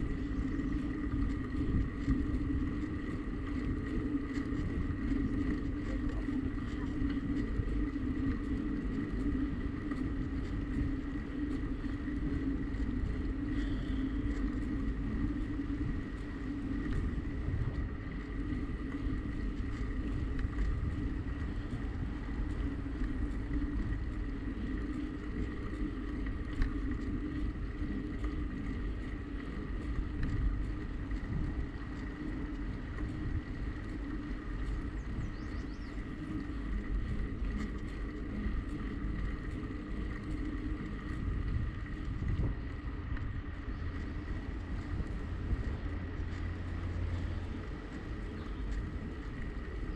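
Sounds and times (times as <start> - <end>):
bicycle rolling noise: 0.0 - 49.9
faint steady whine: 0.0 - 49.9
wind buffeting microphone: 0.0 - 49.9.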